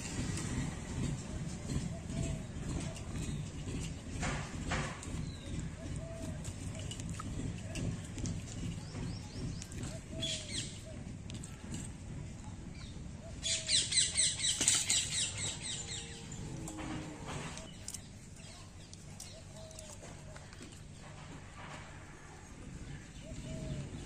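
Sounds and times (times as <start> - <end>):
low outdoor noise: 0.0 - 24.0.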